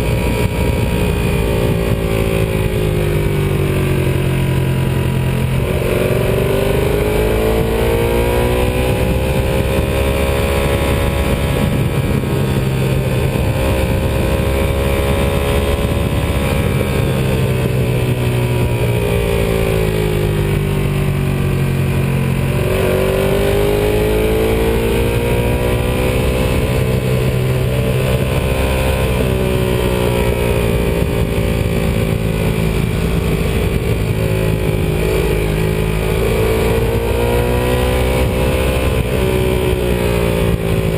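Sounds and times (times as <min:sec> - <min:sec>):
motorcycle engine: 0:00.0 - 0:40.9
wind and road noise: 0:00.0 - 0:40.9.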